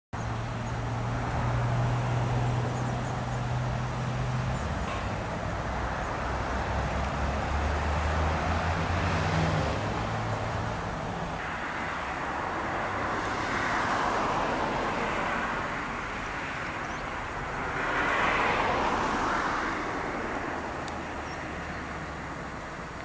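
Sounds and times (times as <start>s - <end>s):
road noise: 0.1s - 23.0s.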